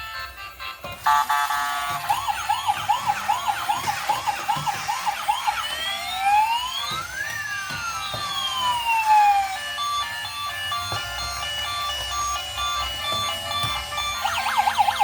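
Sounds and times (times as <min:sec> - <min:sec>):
emergency vehicle siren: 0:01.0 - 0:15.0.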